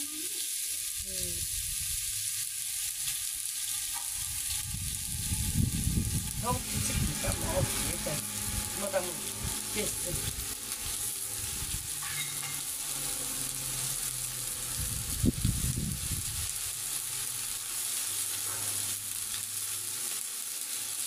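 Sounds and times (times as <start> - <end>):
meat sizzling on a griddle: 0.0 - 21.0.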